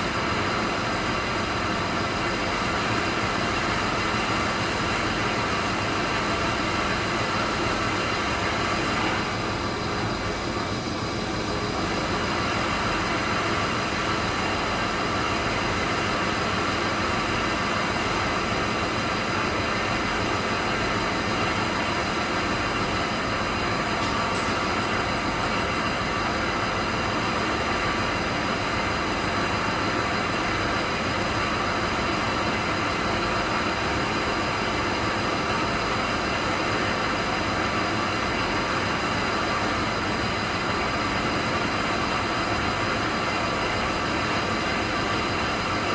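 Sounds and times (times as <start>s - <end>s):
factory machinery humming and whining: 0.0s - 45.9s.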